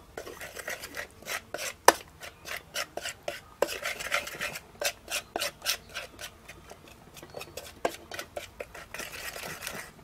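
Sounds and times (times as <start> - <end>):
metal spoon scraping metal bowl: 0.2 - 10.0.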